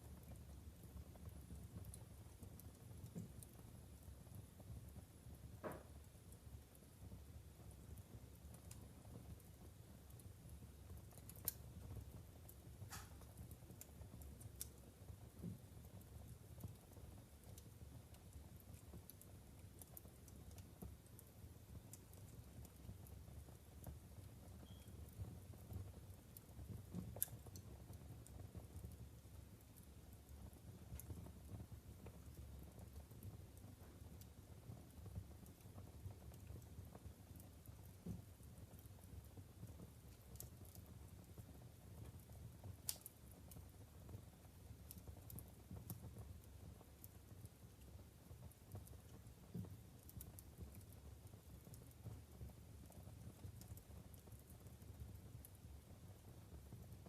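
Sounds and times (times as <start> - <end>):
logs crackling and popping: 0.0 - 57.0
low rumble of flames: 0.0 - 57.0.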